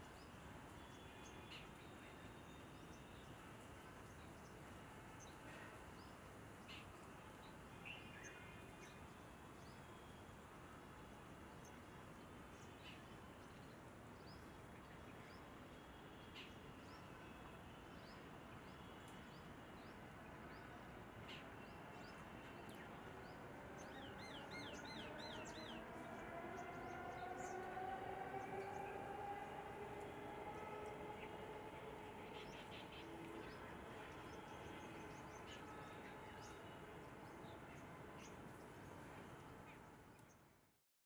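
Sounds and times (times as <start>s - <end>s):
outdoor background noise: 0.0s - 40.8s.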